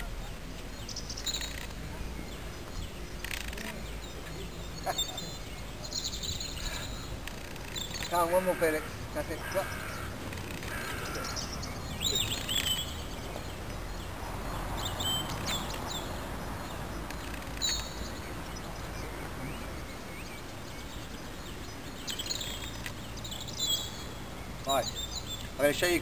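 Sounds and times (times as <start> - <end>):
birds chirping: 0.0 - 26.0
outdoor background noise: 0.0 - 26.0.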